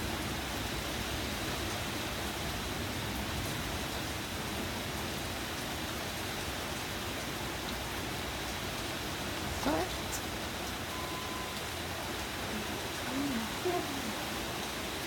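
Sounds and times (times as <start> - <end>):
heavy rain on ground and foliage: 0.0 - 15.0.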